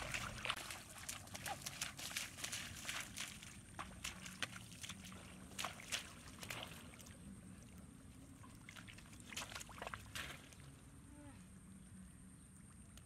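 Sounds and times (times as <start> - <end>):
splashes in shallow water: 0.0 - 10.9.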